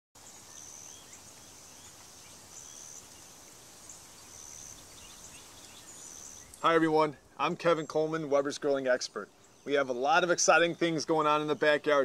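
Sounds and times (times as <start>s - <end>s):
low hiss: 0.2s - 12.0s.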